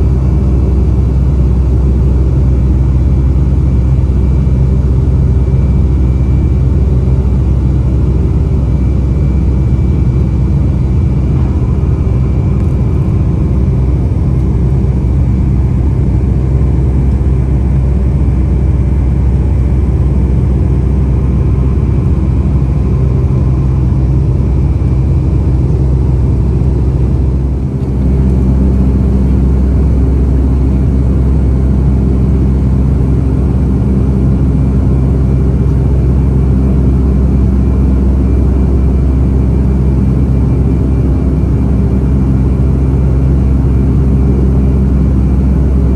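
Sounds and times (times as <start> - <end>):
jet engines droning in cabin: 0.0 - 45.9.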